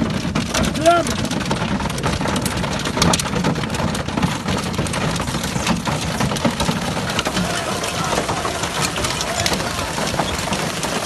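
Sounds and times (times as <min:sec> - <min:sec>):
heavy hail falling: 0:00.0 - 0:11.0.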